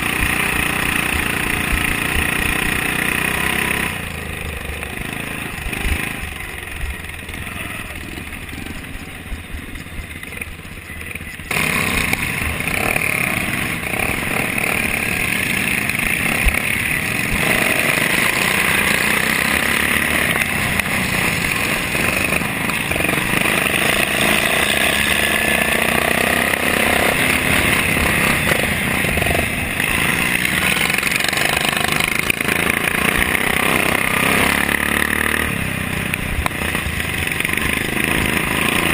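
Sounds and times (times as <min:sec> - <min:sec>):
lawn mower engine at high revs: 0:00.0 - 0:38.9
other mower engines nearby: 0:00.0 - 0:38.9.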